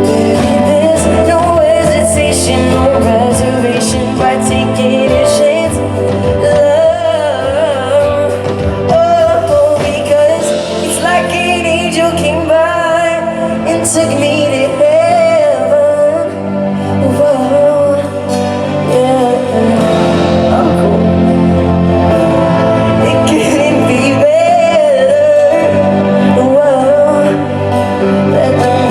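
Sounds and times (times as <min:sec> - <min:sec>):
backing band playing: 0:00.0 - 0:28.9
man singing pop song: 0:00.0 - 0:28.9.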